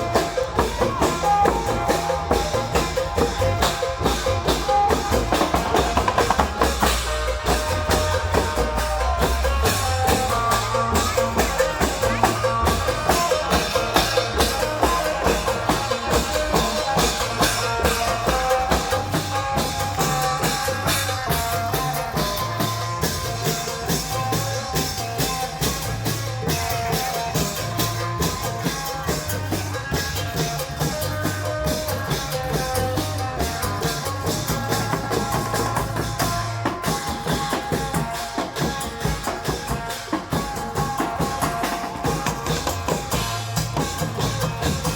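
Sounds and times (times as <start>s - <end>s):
fast dense drumming: 0.0s - 44.9s.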